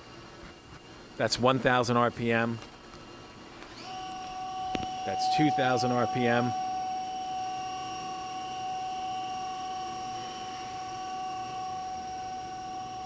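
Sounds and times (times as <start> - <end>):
lathe spindle whine: 0.0 - 13.0.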